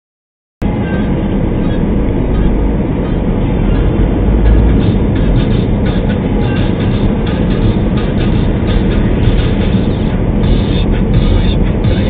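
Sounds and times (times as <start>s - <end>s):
car engine and tyre rumble: 0.6s - 12.0s.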